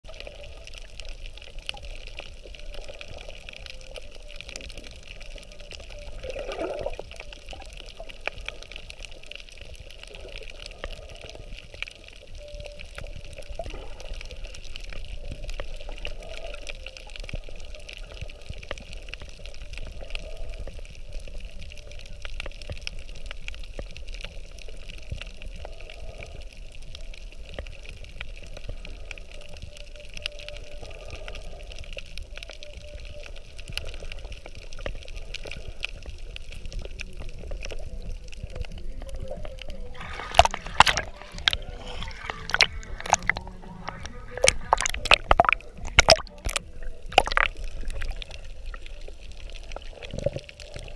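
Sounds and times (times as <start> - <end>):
muffled underwater water wash: 0.0 - 50.9
small sharp underwater clicks: 0.1 - 50.9.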